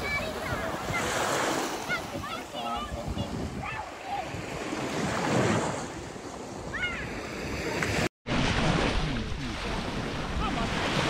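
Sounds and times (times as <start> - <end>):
waves washing onto beach: 0.0 - 11.0
wind on microphone: 0.0 - 11.0.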